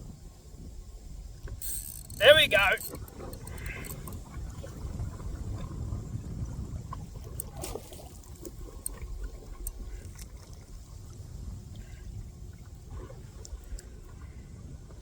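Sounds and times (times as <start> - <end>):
wind rumble on microphone: 0.0 - 15.0
water splashing and trickling: 1.6 - 14.5.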